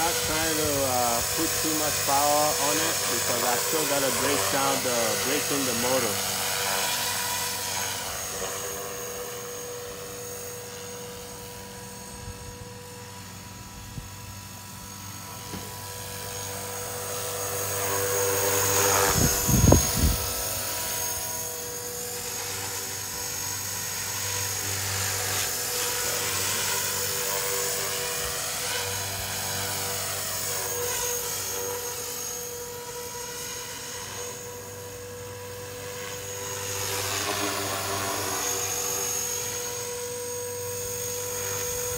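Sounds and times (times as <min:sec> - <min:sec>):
rc helicopter motor and rotor whine: 0:00.0 - 0:41.9.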